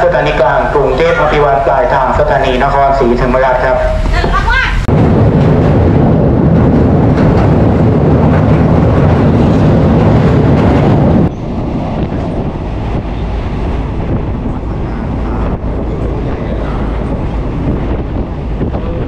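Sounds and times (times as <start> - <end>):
train carriage rumble: 0.0 - 19.0.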